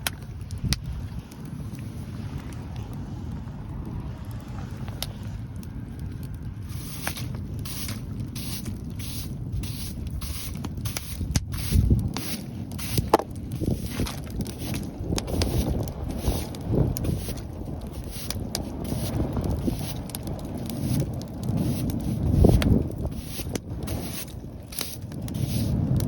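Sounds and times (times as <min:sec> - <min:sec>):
short crackles and hisses: 0:00.0 - 0:26.0
wind buffeting microphone: 0:00.0 - 0:26.0
wood fire burning: 0:00.0 - 0:26.0.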